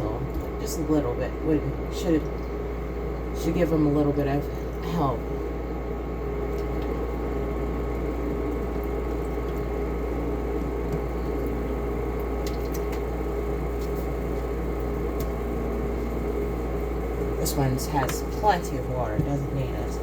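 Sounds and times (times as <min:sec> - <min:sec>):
fan humming and whirring: 0:00.0 - 0:20.0.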